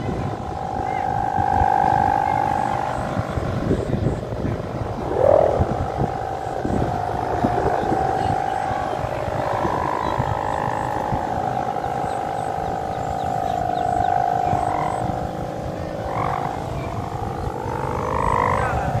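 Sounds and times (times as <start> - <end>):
kite hummer droning: 0.0 - 19.0.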